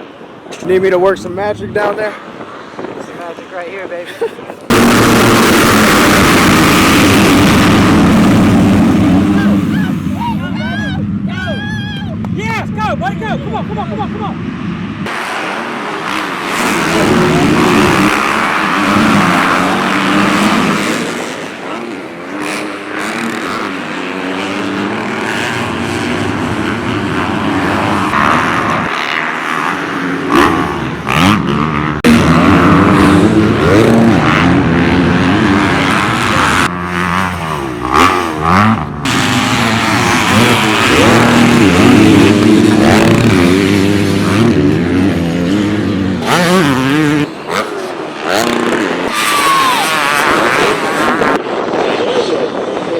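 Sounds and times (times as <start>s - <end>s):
dirt bike engines revving: 0.0s - 52.9s
dirt bikes passing close by: 0.0s - 52.9s.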